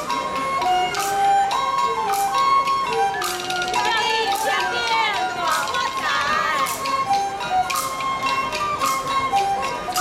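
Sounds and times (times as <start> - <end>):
flute-like instrument melody: 0.0 - 10.0.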